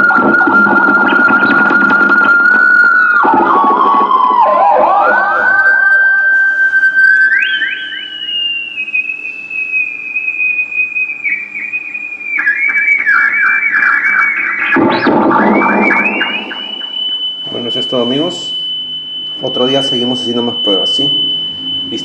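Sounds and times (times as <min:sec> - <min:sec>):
theremin whistling tone: 0:00.0 - 0:22.0.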